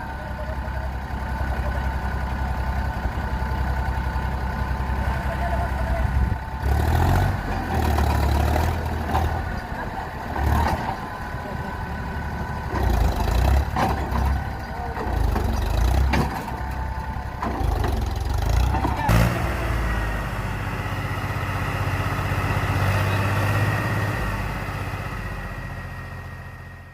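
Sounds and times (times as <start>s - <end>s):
tractor diesel engines running: 0.0s - 26.9s.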